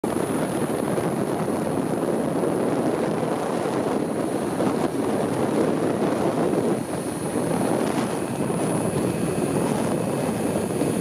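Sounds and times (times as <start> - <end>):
drone propellers rushing: 0.0 - 11.0
wind on microphone: 0.0 - 11.0.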